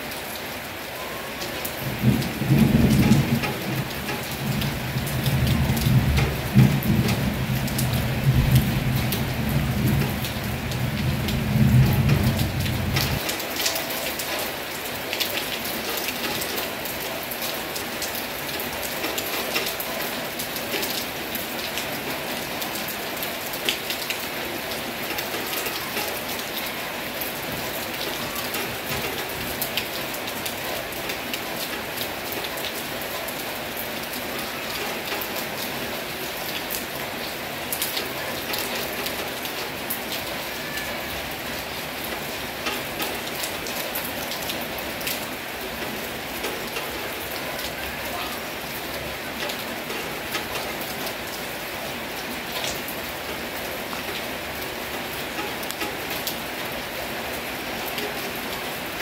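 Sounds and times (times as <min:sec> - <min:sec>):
heavy rain falling: 0:00.0 - 0:59.0
raindrops ticking nearby: 0:00.1 - 0:59.0.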